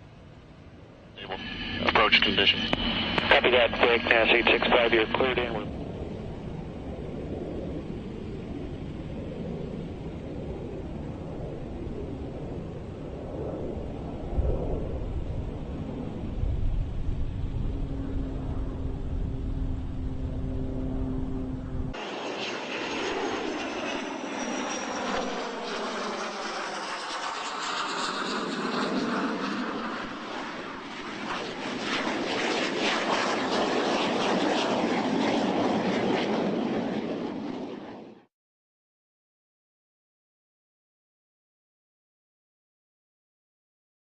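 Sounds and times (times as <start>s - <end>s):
jet aircraft flying past: 0.0s - 38.3s
jet engine rumble: 0.0s - 38.3s.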